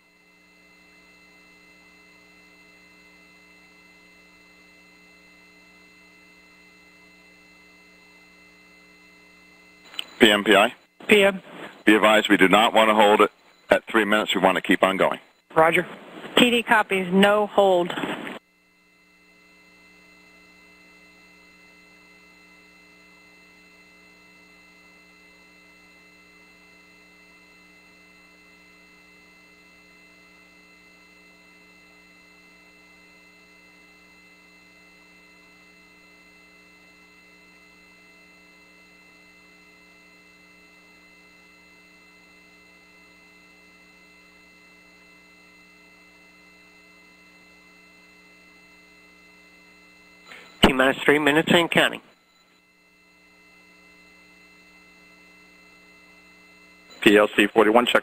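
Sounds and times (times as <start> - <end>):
faint electrical hum: 0.0 - 58.0.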